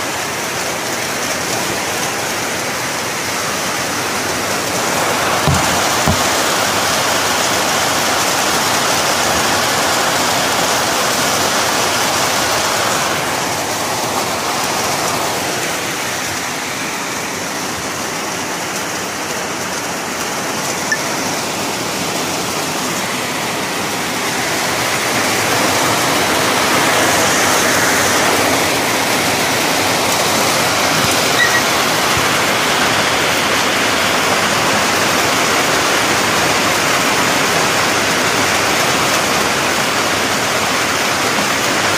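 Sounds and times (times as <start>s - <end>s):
heavy rain falling: 0.0s - 41.9s
rainwater pouring off a roof: 0.0s - 41.9s.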